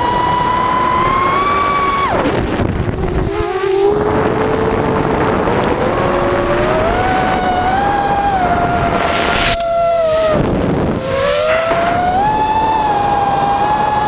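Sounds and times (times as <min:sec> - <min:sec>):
drone motors whining: 0:00.0 - 0:14.0
wind rushing over microphone: 0:00.0 - 0:14.0.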